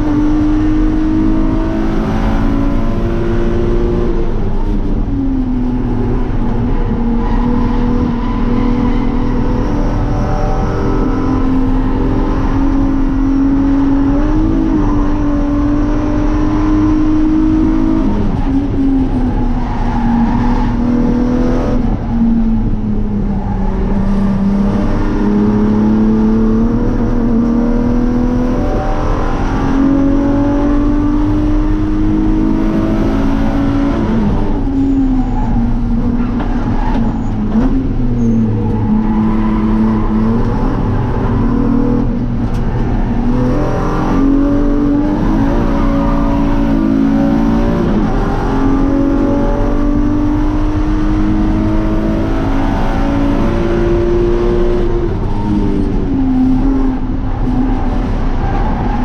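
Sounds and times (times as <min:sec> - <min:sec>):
race car engine revving through gears: 0:00.0 - 0:59.0.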